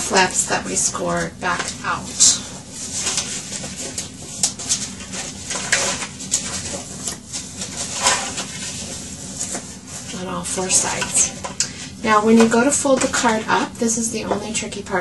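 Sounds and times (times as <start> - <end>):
paper folding and crinkling: 0.0 - 14.7.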